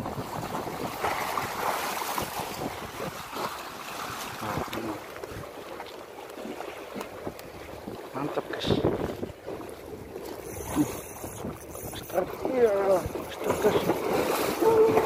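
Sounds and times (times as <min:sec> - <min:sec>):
wind buffeting microphone: 0:00.0 - 0:05.7, 0:06.4 - 0:15.0
waves splashing against concrete: 0:00.0 - 0:15.0.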